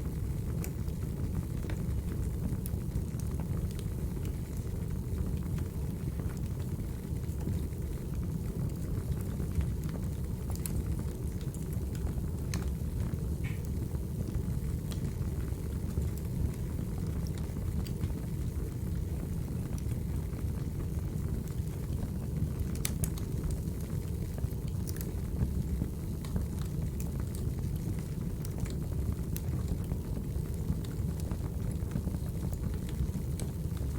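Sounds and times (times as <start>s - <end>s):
burning logs rumbling: 0.0s - 33.9s
fire crackles and pops: 0.0s - 33.9s.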